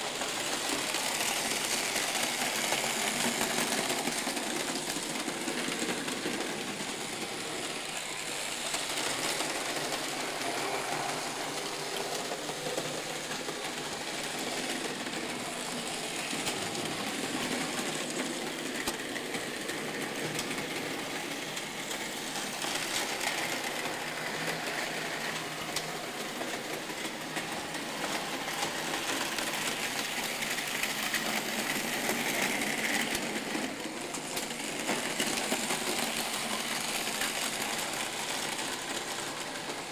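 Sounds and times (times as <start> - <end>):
model train motors whirring: 0.0 - 39.9
wheels clicking over track: 0.2 - 39.9.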